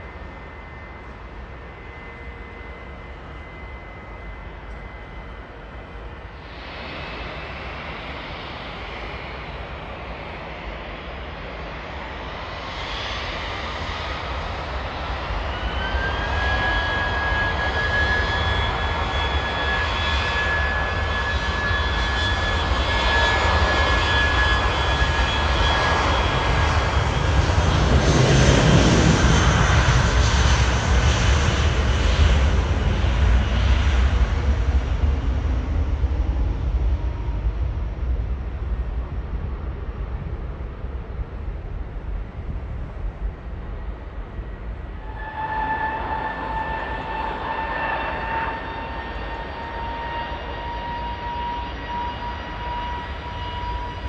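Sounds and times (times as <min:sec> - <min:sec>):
deep jet rumble: 0:00.0 - 0:54.0
jet engine whine: 0:00.0 - 0:54.0.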